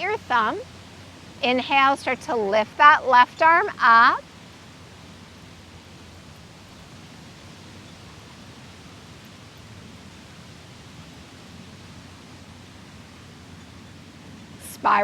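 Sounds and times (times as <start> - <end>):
steady wind: 0.0 - 15.0.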